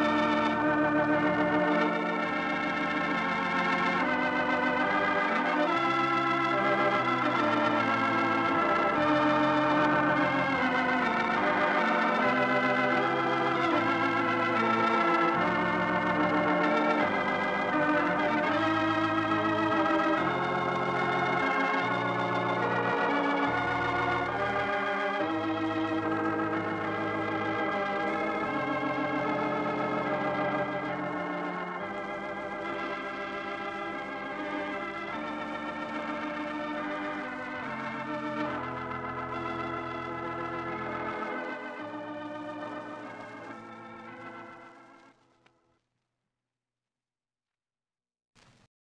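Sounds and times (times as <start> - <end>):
organ playing held chords: 0.0 - 45.2.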